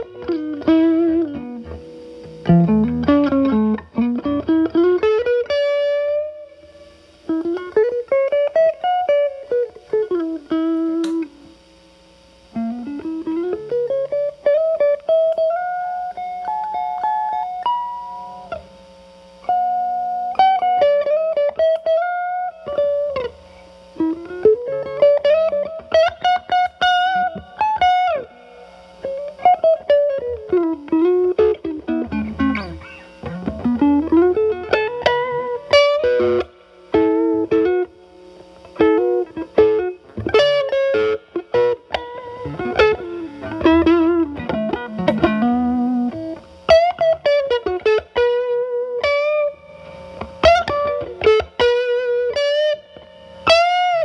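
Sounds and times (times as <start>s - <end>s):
overdriven electric guitar: 0.0s - 54.0s.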